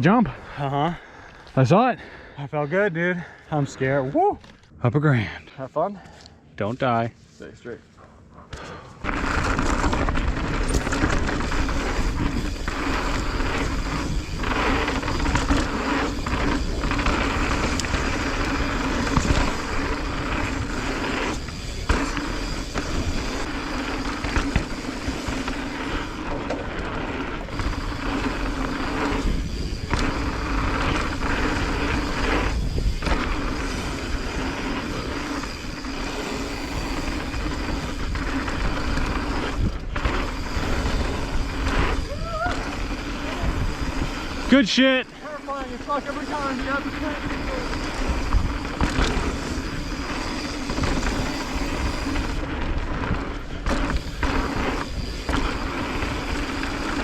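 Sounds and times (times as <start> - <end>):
wind: 0.0 - 57.0
bike rattling: 7.8 - 57.0
tyres rolling over dirt: 8.6 - 57.0.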